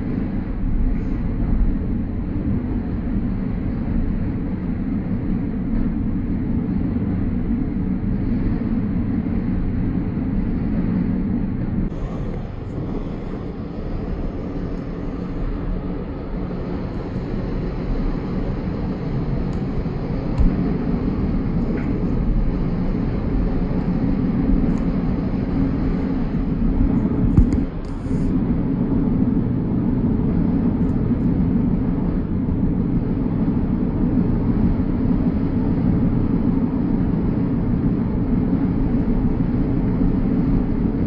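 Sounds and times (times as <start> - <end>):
train rumble inside carriage: 0.0 - 41.0.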